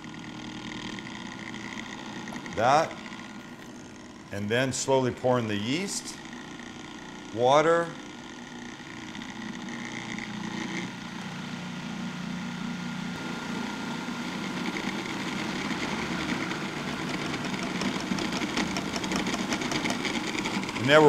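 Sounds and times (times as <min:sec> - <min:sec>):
food processor motor running: 0:00.0 - 0:21.0.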